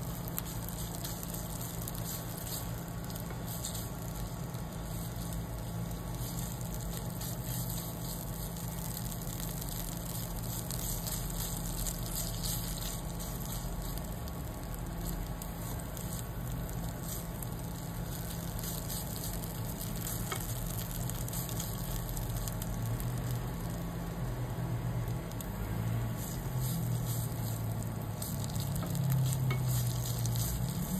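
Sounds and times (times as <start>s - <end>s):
spatula stirring in pan: 0.0s - 24.0s, 25.2s - 30.9s
curry paste sizzling in oil: 0.0s - 30.9s
low steady hum: 0.0s - 30.9s.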